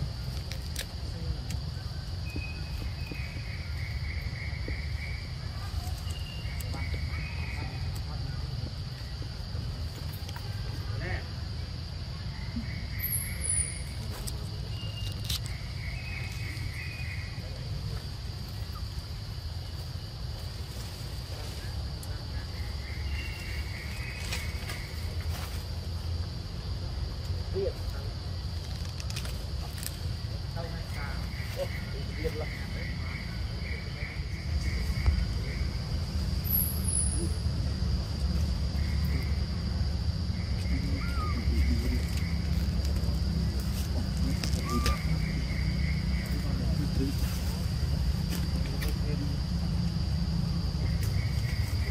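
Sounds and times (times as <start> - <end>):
insect drone: 0.0 - 51.9.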